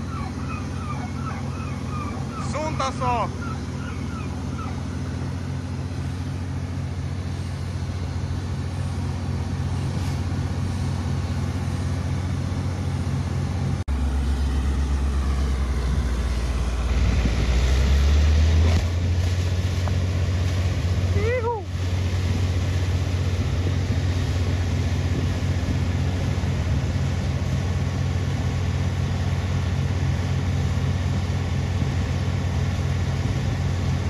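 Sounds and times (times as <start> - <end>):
drilling rig engine pulsing: 0.0 - 34.0.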